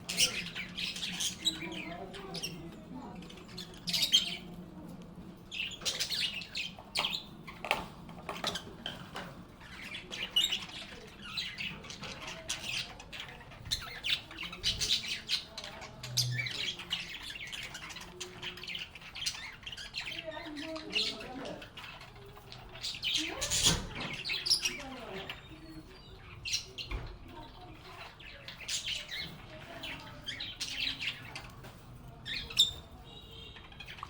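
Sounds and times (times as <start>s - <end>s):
lovebirds chirping and squawking: 0.0s - 34.0s.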